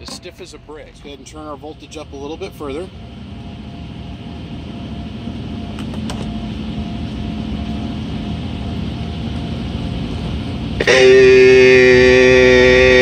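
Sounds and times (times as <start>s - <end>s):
faint engine whine: 0.0s - 13.0s.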